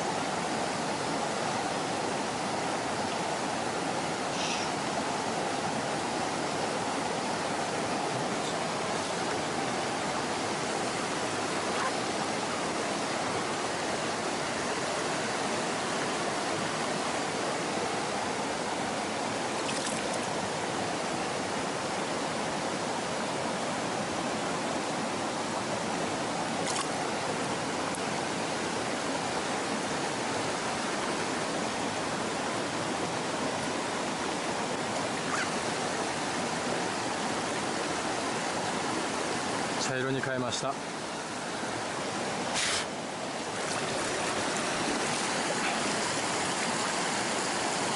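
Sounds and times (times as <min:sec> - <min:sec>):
stream water rushing: 0:00.0 - 0:47.9.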